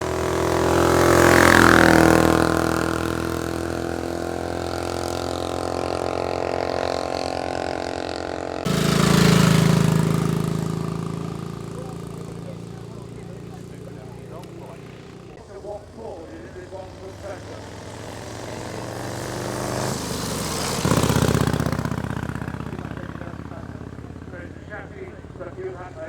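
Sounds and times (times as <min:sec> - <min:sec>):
second engine: 0:00.0 - 0:26.0
vehicle engine running: 0:00.0 - 0:26.0.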